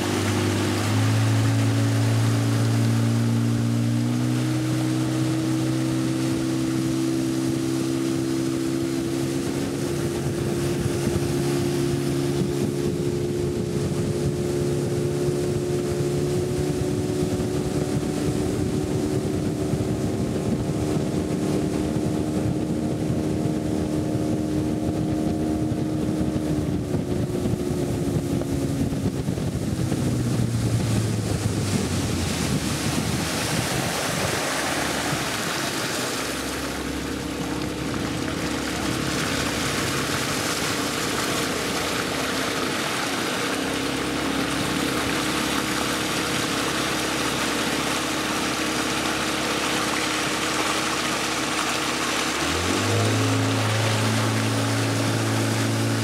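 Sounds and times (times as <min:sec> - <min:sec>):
motorboat engine running: 0:00.0 - 0:56.0
water rushing past hull: 0:00.0 - 0:56.0
wind on microphone: 0:00.0 - 0:56.0.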